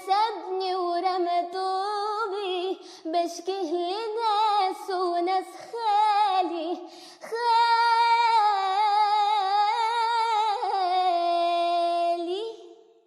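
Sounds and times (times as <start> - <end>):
woman singing unaccompanied: 0.0 - 12.7.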